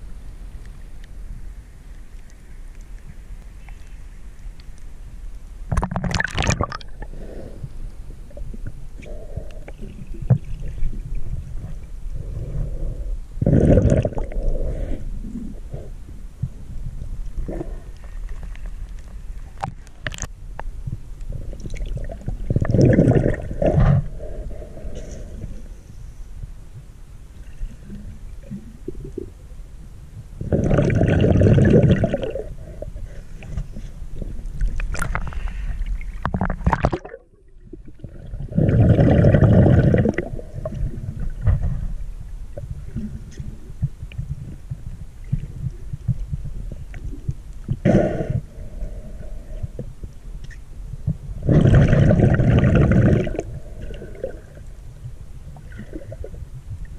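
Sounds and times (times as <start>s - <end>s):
muffled underwater water noise: 0.0s - 56.9s.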